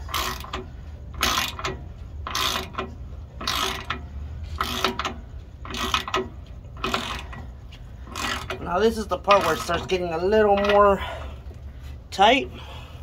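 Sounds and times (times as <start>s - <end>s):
hand ratchet clicking: 0.0s - 4.0s, 4.6s - 11.0s.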